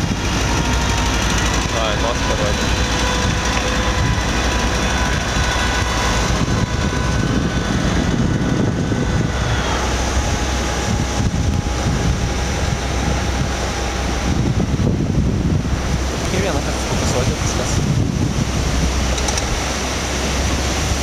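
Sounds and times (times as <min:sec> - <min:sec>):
engine humming: 0:00.0 - 0:21.0
wind buffeting microphone: 0:00.0 - 0:21.0.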